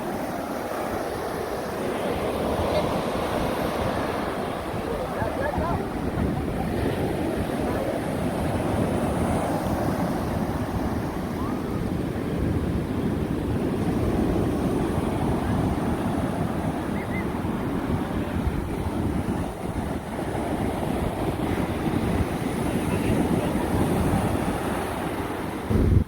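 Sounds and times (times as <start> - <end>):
waves washing onto shore: 0.0 - 26.0
wind rumbling on microphone: 0.0 - 26.0.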